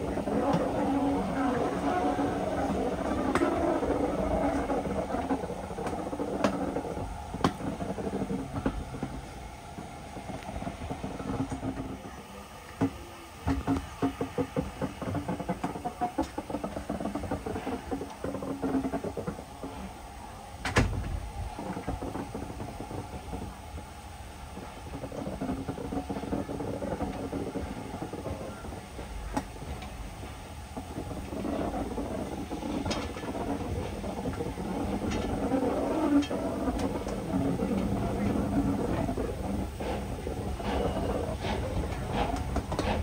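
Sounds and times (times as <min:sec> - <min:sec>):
railway carriage rumble: 0:00.0 - 0:43.0.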